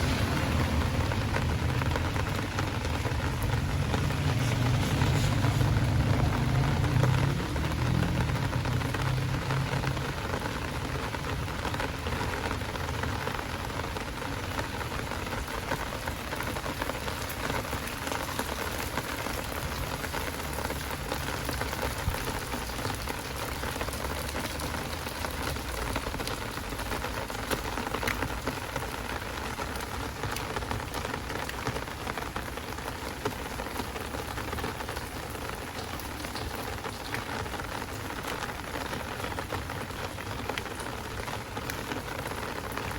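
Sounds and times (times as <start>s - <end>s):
heavy rain falling: 0.0s - 42.9s
vehicle engine rumble: 0.0s - 42.9s.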